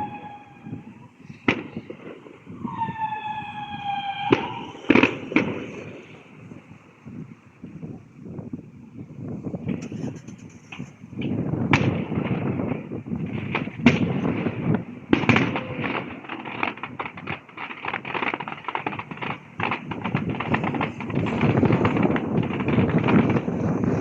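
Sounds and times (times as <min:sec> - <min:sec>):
fireworks sharp reports: 0:00.0 - 0:24.0
rapid crackling of fireworks: 0:00.0 - 0:24.0.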